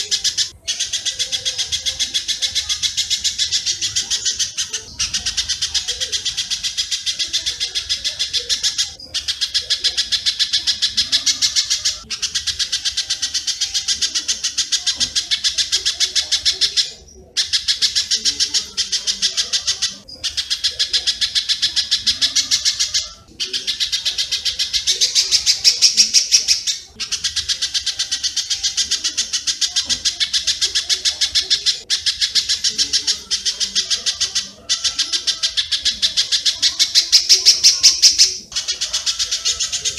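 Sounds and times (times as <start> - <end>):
bird song with sharp chirps: 0.0 - 39.9
swiftlets twittering: 0.0 - 39.9.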